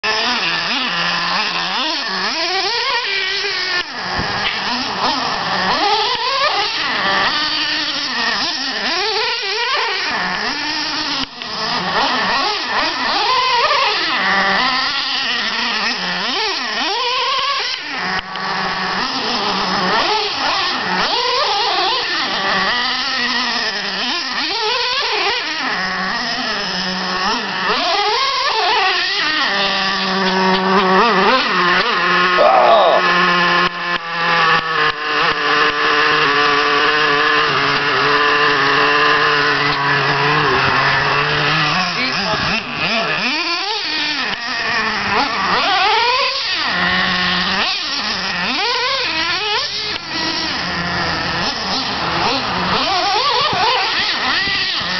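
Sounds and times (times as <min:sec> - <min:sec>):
small nitro engine revving: 0:00.0 - 0:54.9.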